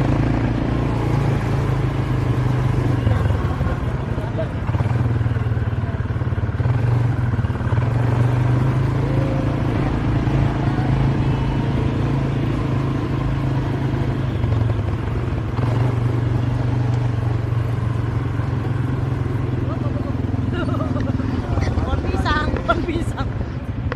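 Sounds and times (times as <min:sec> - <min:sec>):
small vehicle engine droning: 0:00.0 - 0:23.9.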